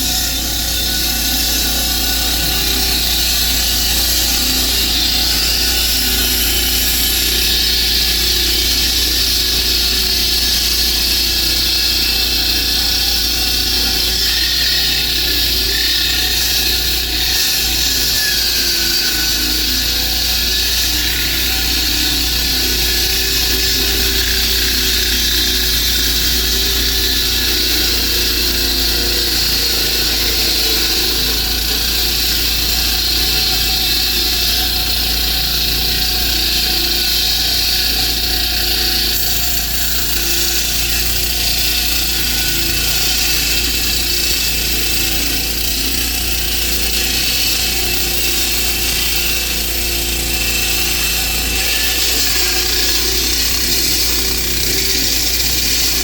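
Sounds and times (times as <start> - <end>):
concrete saw cutting concrete: 0.0 - 56.0.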